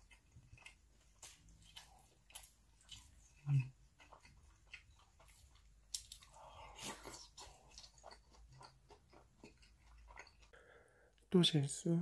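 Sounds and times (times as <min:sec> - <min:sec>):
chewing with wet mouth clicks: 0:00.0 - 0:10.6.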